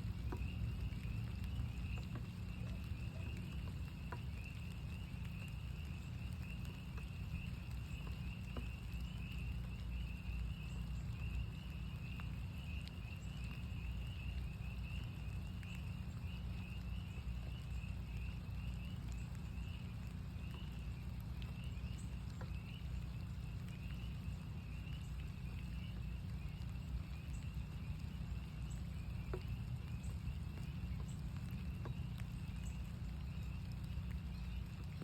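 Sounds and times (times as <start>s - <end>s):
frogs peeping: 0.0s - 35.0s
rain rumble: 0.0s - 35.0s
water drips: 0.0s - 35.0s.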